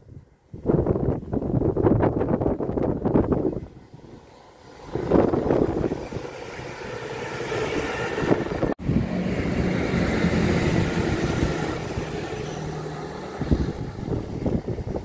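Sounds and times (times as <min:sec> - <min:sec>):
diesel train engine drone: 0:02.1 - 0:15.0
diesel train rumble: 0:02.2 - 0:15.0.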